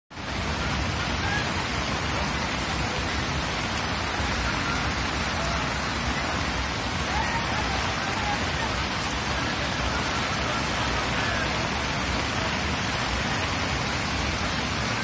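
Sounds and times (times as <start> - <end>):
heavy rain falling: 0.1 - 15.0.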